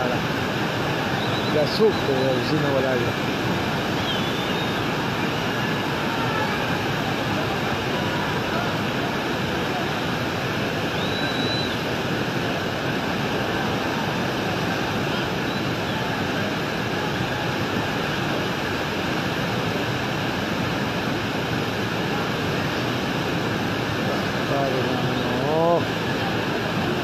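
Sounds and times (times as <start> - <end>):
floodwater rushing down a street: 0.0 - 27.0.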